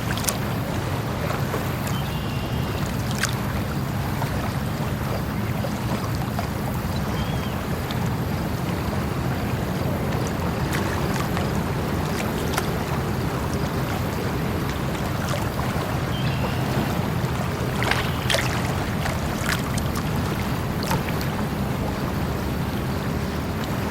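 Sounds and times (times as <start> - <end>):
water rushing: 0.0 - 23.9.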